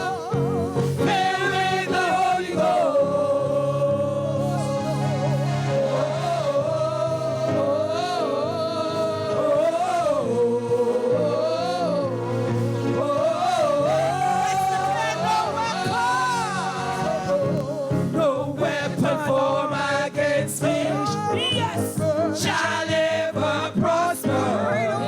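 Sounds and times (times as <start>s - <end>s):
gospel band playing: 0.0s - 25.0s
person singing: 0.0s - 25.0s.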